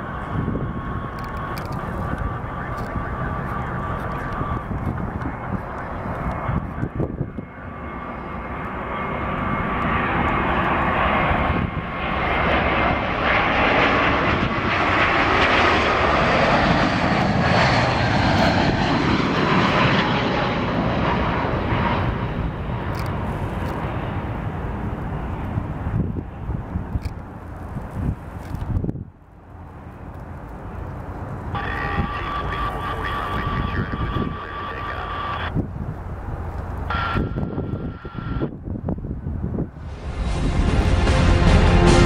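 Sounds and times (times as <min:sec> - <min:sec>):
jet plane passing overhead: 0:00.0 - 0:42.0.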